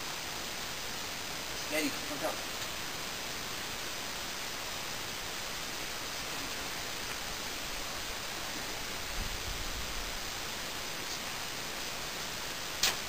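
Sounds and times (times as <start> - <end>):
water spraying from a hose: 0.0 - 13.0.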